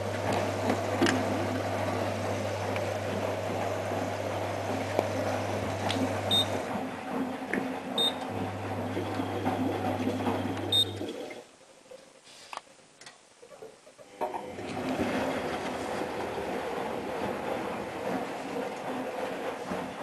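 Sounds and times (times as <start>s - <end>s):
washing machine drum rumble: 0.0s - 11.1s, 14.5s - 20.0s
washing machine humming: 0.0s - 11.6s, 13.5s - 20.0s.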